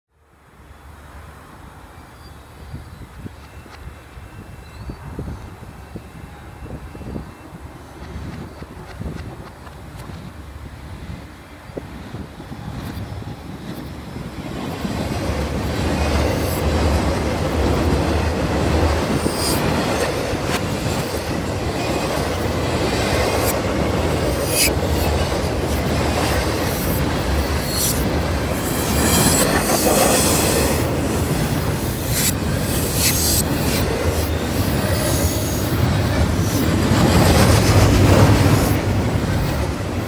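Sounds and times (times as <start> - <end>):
freight train wheels rumbling on rail: 2.9 - 40.0
train clanks: 6.6 - 40.0.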